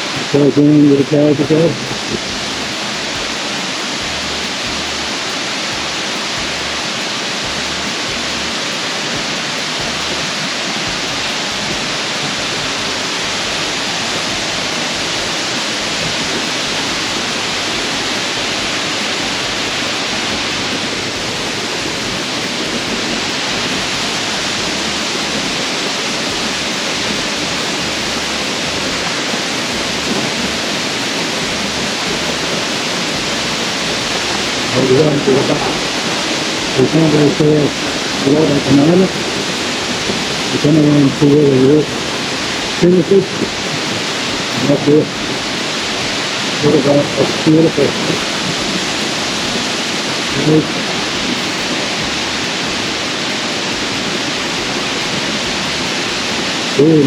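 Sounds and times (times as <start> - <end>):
waterfall rushing in a cave: 0.0 - 57.0.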